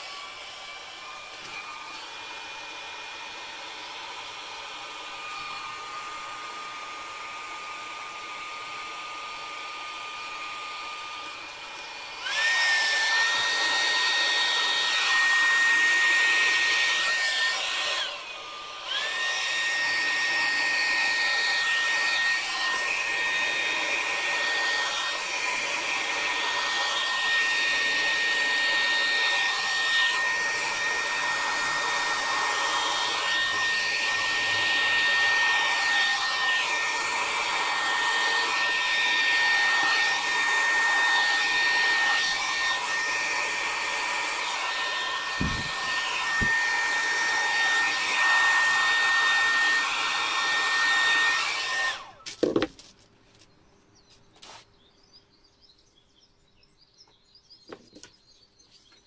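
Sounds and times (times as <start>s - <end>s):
hair dryer running: 0.0s - 52.3s.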